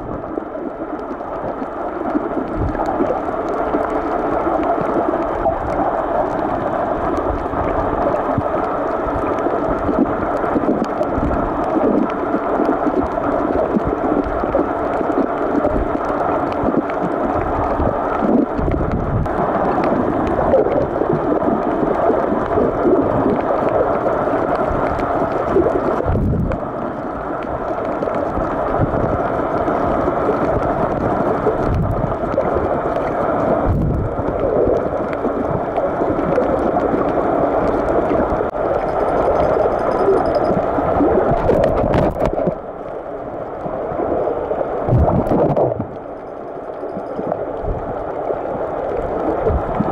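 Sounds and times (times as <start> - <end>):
muffled underwater rush: 0.0 - 49.9.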